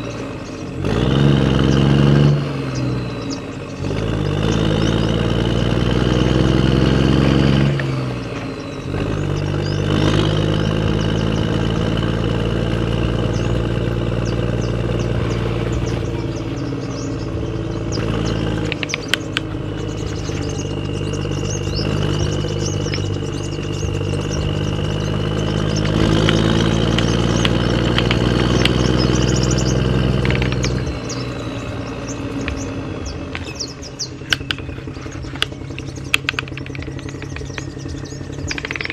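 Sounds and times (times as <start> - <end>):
model engine running: 0.0 - 38.9
high steady whine: 1.6 - 38.9.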